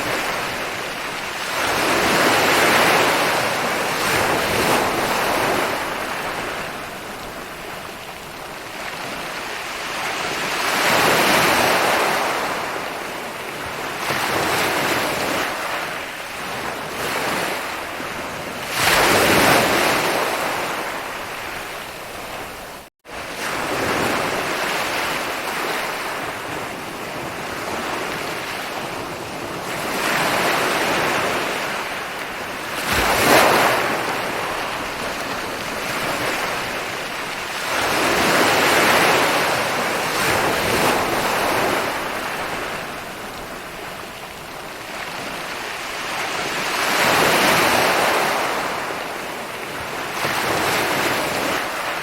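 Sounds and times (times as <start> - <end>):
ocean waves rolling onto shore: 0.0 - 52.0.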